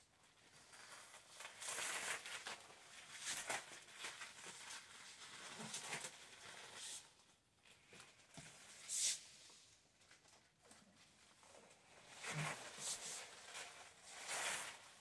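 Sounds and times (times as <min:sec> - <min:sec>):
plastic dress rustling: 0:00.2 - 0:15.0.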